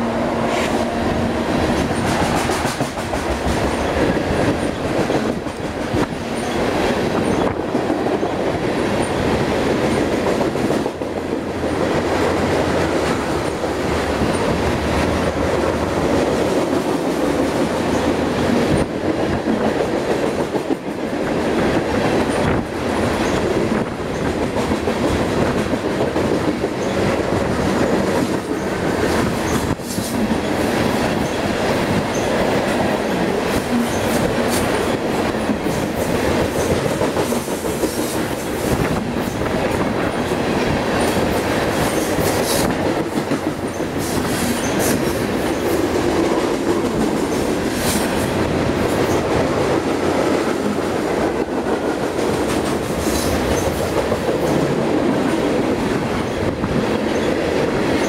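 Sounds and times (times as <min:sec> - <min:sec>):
steel wheels rumbling on rail: 0:00.0 - 0:58.0
wheels click-clacking over rail joints: 0:00.5 - 0:58.0.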